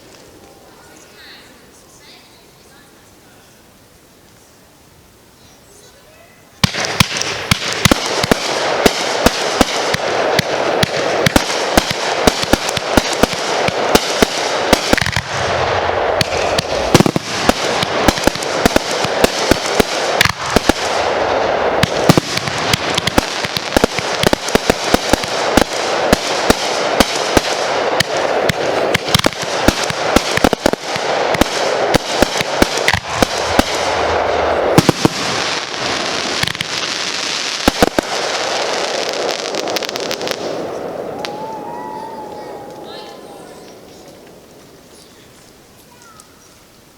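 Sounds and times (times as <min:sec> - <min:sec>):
fireworks bangs and crackles: 0:05.9 - 0:46.9.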